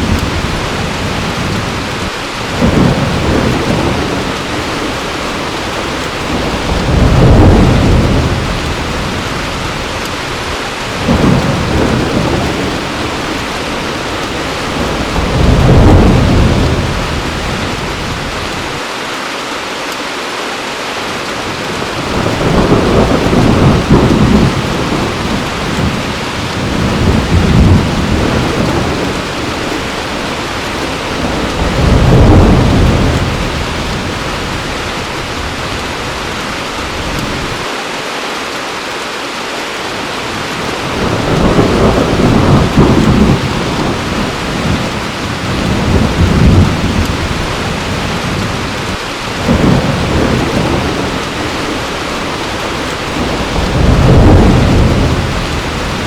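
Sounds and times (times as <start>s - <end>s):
rolling thunder: 0.0s - 18.8s, 21.5s - 37.6s, 40.4s - 56.0s
heavy rain: 0.0s - 56.0s.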